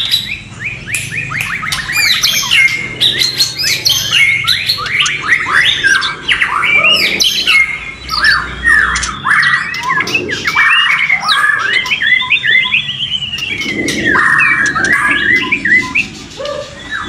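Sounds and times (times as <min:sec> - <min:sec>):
birds singing whistled notes: 0:00.0 - 0:17.0
harsh rasping bird phrases: 0:01.2 - 0:17.0.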